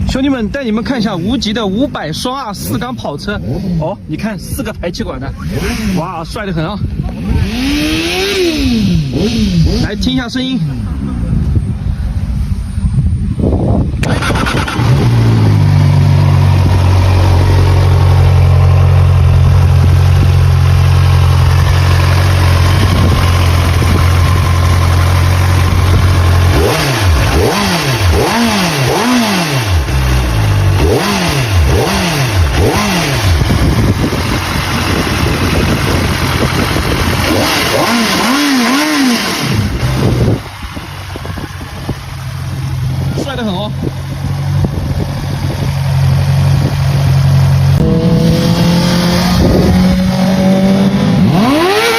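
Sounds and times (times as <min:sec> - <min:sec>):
motorcycle engine starting and idling: 0:00.0 - 0:51.9
motorcycle throttle blips: 0:05.3 - 0:51.9.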